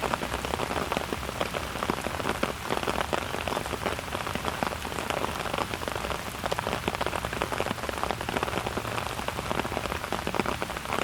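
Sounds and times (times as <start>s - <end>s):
steady rain patter: 0.0s - 11.0s.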